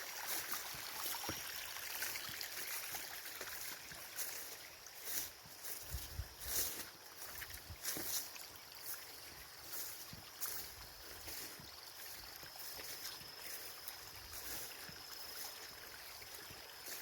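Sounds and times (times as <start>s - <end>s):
small stream of water running: 0.0s - 17.0s.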